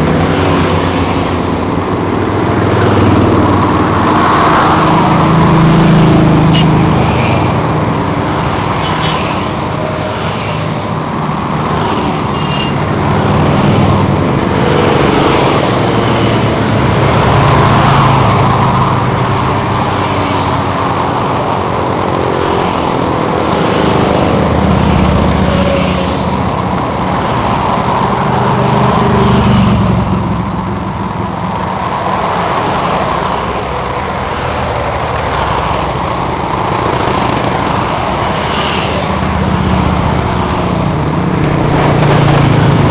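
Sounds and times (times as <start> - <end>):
dense rushing noise: 0.0 - 42.9
motorcycle engines running: 0.0 - 42.9.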